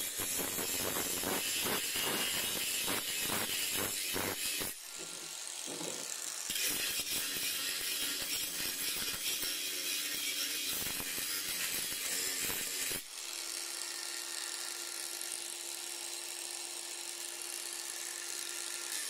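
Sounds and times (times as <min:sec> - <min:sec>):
angle grinder grinding and whining: 0:00.0 - 0:19.0.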